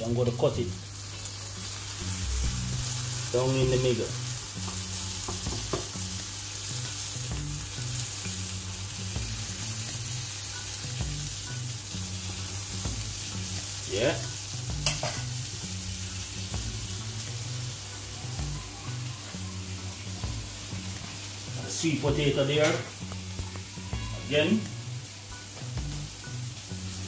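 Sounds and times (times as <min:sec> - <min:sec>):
meat sizzling in oil: 0:00.0 - 0:27.0.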